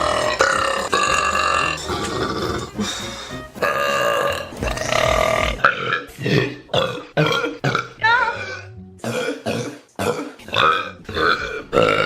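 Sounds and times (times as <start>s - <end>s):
woman belching: 0.0s - 2.8s, 3.6s - 12.0s.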